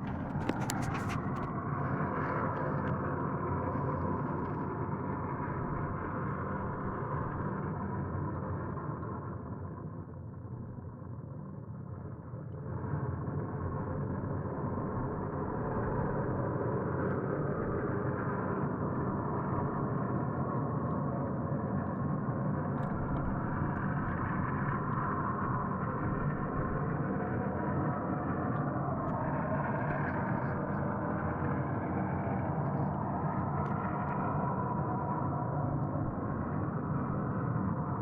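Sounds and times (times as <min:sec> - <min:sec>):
low droning hum: 0:00.0 - 0:38.0.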